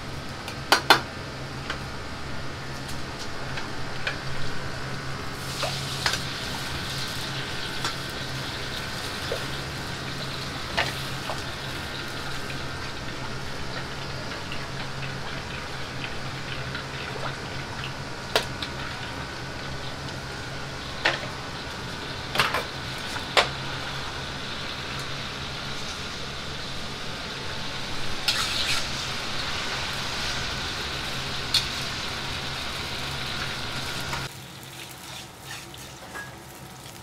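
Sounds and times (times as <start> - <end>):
steady low hum: 0.0 - 34.3
liquid sizzling in a wok: 1.9 - 37.0.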